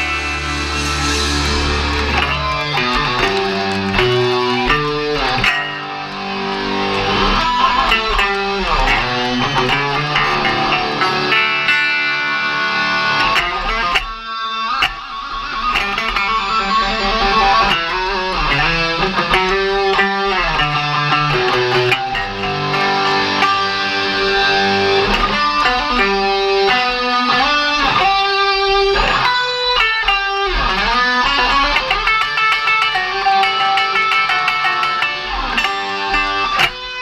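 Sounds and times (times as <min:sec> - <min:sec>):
electric guitar lead with bends: 0:00.0 - 0:37.0
live rock band: 0:00.0 - 0:37.0.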